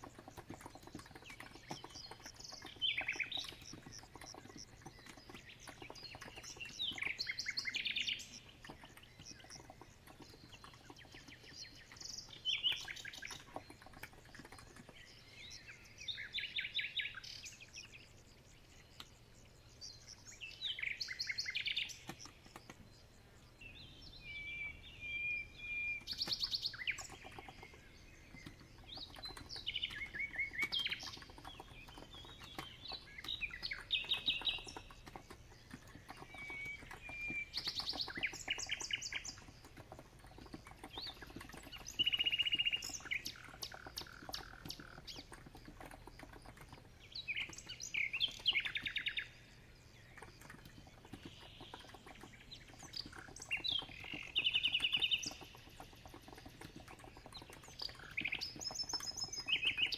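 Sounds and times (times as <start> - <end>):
keyboard typing clicks: 0.0 - 15.1, 21.9 - 22.9, 25.9 - 49.0, 50.1 - 59.9
songbird singing trills: 0.0 - 59.9.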